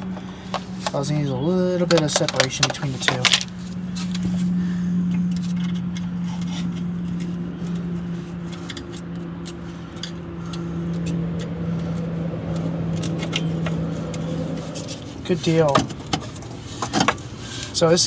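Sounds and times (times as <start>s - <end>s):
low machine hum: 0.0s - 18.0s
light metallic clicks and scrapes: 1.8s - 4.5s, 5.1s - 17.8s.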